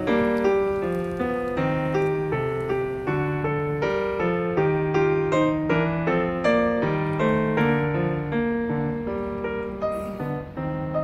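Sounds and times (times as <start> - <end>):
background piano music: 0.0 - 11.0.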